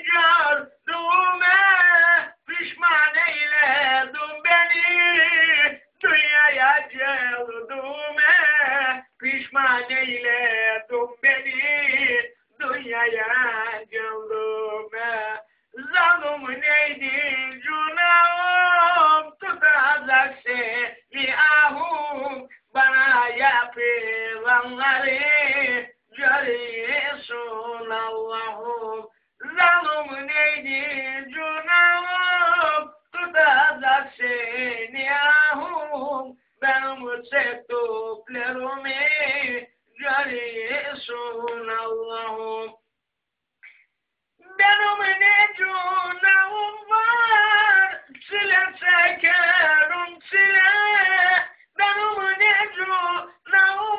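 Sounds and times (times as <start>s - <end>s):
man singing unaccompanied: 0.0s - 43.0s, 44.4s - 53.9s.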